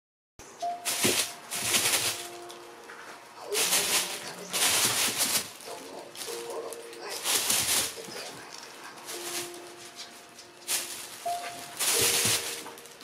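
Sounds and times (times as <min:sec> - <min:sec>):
plastic bag crinkling: 0:00.6 - 0:13.0.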